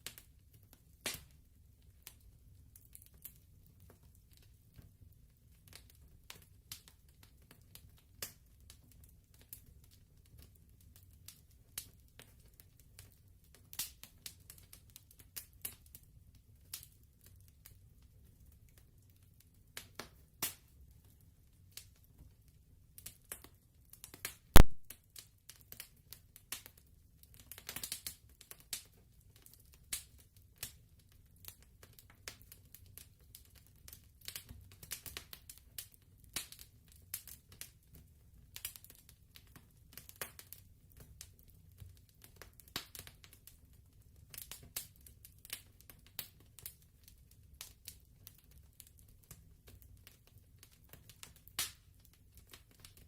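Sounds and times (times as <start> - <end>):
fireplace crackling: 0.0 - 53.0.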